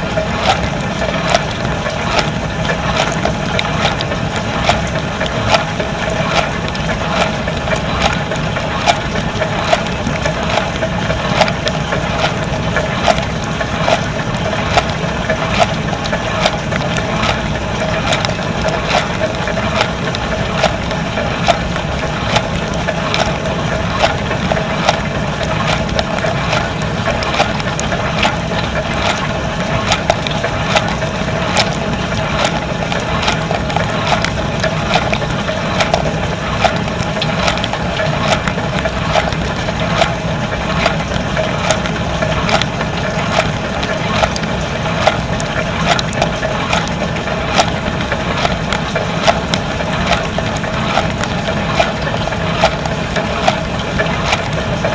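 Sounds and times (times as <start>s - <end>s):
dishwasher pump humming: 0.0s - 54.9s
water jets spattering: 0.0s - 54.9s.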